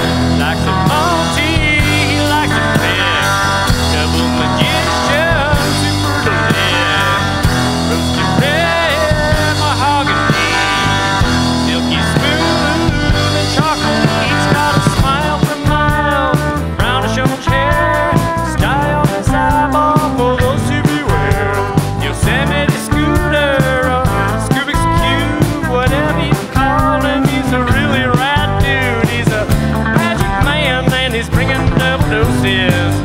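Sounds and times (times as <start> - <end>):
bending lead guitar line: 0.0 - 33.0
country-rock band playing: 0.0 - 33.0.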